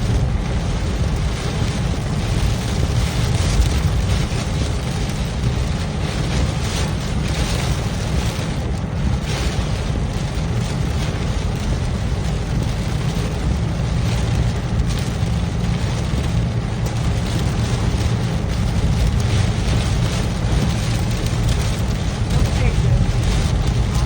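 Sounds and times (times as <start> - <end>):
car driving rumble: 0.0 - 24.0
storm rain and wind on car: 0.0 - 24.0.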